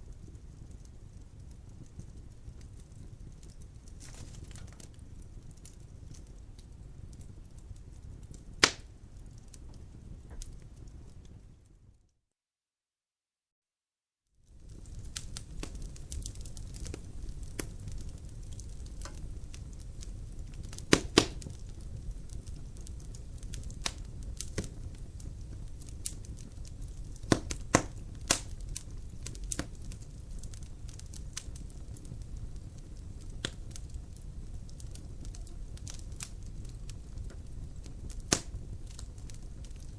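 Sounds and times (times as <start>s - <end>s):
wood fire crackling: 0.0s - 11.9s, 14.4s - 39.9s.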